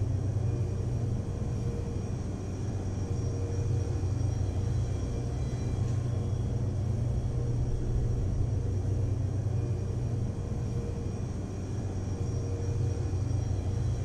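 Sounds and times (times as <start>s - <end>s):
faint high whine: 0.0s - 14.0s
low mechanical hum: 0.0s - 14.0s.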